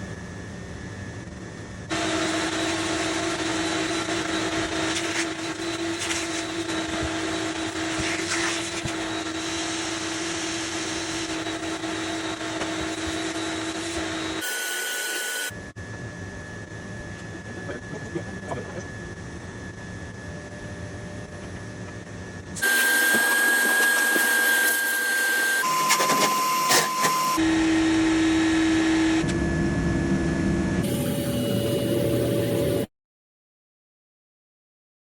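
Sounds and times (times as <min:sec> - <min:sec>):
motor humming: 0:01.9 - 0:15.8, 0:17.0 - 0:32.9.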